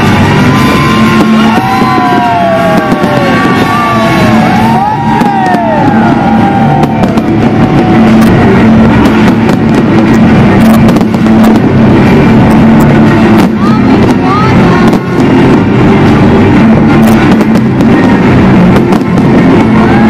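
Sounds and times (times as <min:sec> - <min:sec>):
fireworks bangs and crackles: 0:00.0 - 0:20.0
loud music: 0:00.0 - 0:20.0.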